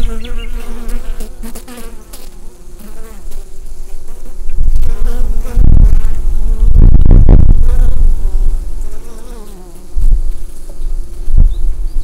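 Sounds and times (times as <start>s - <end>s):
bees buzzing at a hive: 0.0s - 12.0s.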